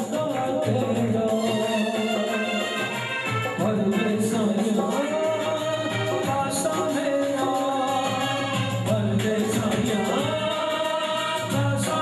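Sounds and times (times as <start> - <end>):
devotional song singing: 0.0 - 12.0
instrumental backing: 0.0 - 12.0.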